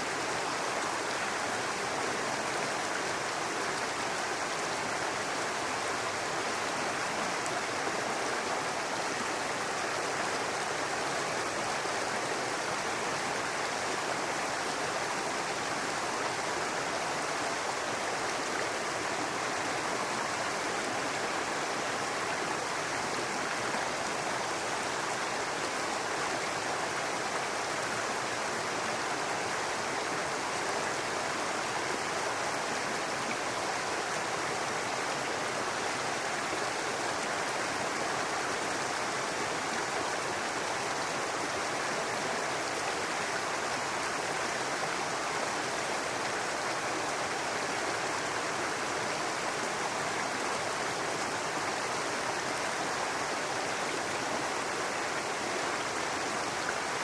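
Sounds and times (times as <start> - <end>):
brook water running over rocks: 0.0 - 57.0.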